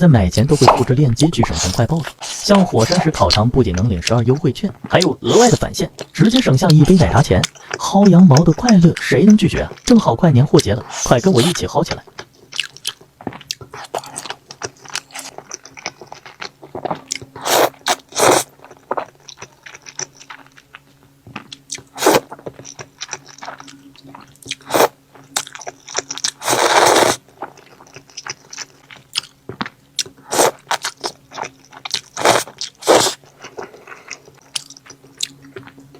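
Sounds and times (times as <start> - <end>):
faint steady hum: 0.0 - 35.9
person chewing crunchy food: 0.2 - 9.9, 10.5 - 35.9.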